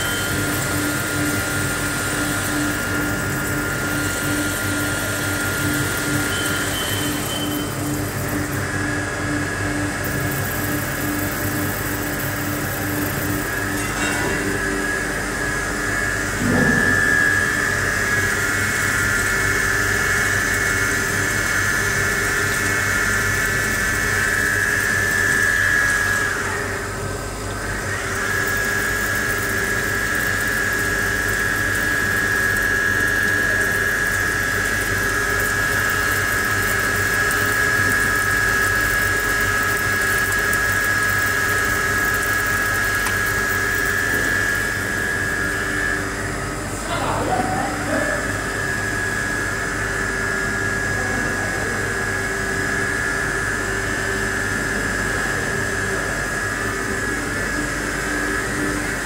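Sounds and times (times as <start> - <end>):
high whine of wire drive: 0.0 - 59.0.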